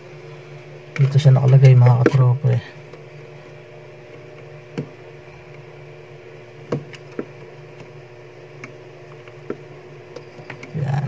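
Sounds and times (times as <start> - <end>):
refrigerator low hum: 0.0 - 11.0.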